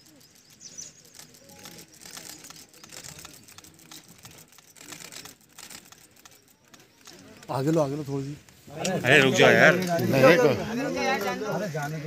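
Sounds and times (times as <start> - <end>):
faint murmuring voices: 0.0 - 12.0
rapid irregular clicking: 0.0 - 12.0.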